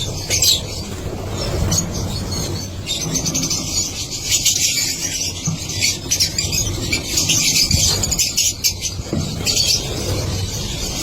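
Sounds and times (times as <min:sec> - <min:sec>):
lovebirds chattering and chirping: 0:00.0 - 0:11.0.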